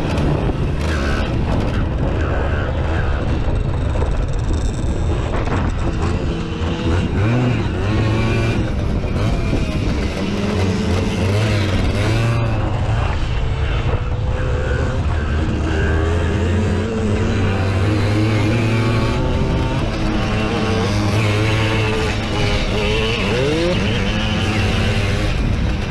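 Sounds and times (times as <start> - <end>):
moped engine revving: 0.0 - 25.9.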